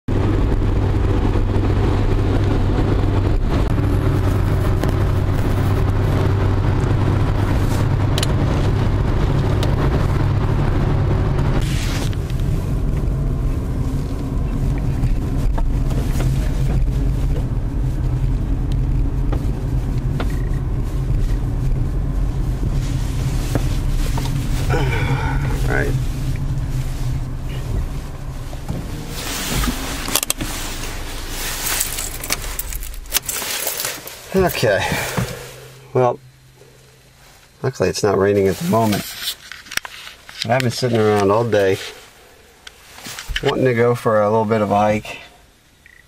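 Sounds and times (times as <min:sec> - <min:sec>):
car engine running: 0:00.1 - 0:46.0
road and cabin noise: 0:00.1 - 0:46.0.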